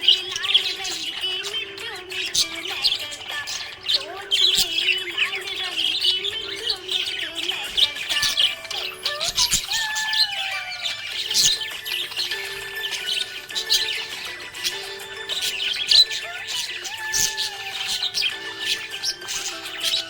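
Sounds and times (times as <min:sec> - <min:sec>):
background music: 0:00.0 - 0:20.0
parrot chirping and squawking: 0:00.0 - 0:20.0.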